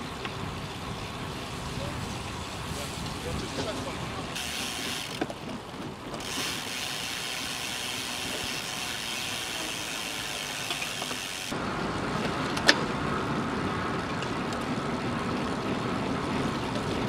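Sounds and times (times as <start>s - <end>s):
wind and bicycle road noise: 0.0s - 17.0s.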